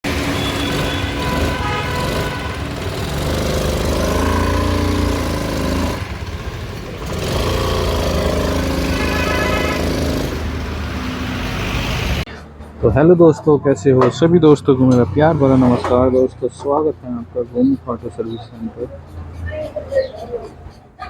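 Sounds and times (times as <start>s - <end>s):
scooter engine revving: 0.0s - 21.0s.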